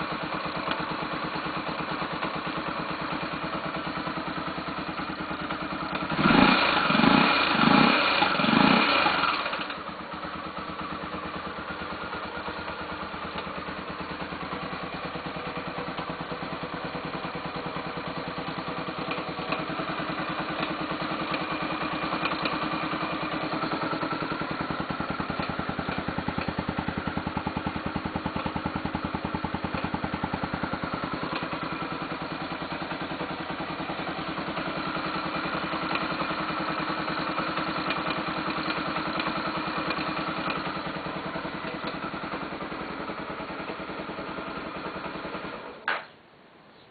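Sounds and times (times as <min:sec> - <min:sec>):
engine ticking: 0:00.0 - 0:46.1
motorcycle engine revving and idling: 0:00.0 - 0:46.2.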